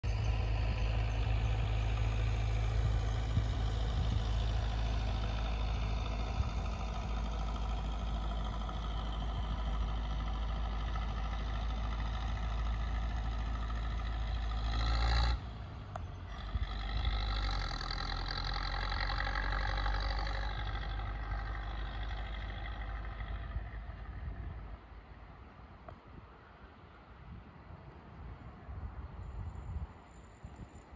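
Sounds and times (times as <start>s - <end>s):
higher engine hum: 0.0s - 26.9s
vehicle engine rumbling: 0.0s - 30.9s.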